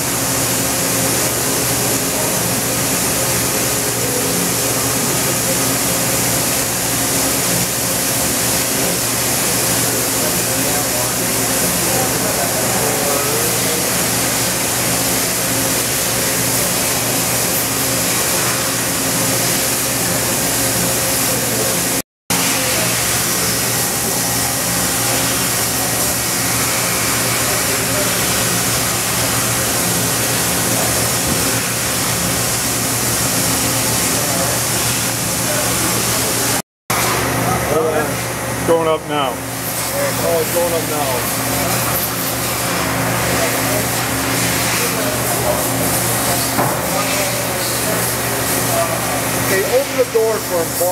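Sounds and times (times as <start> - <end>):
machine mechanical hum: 0.0 - 50.9.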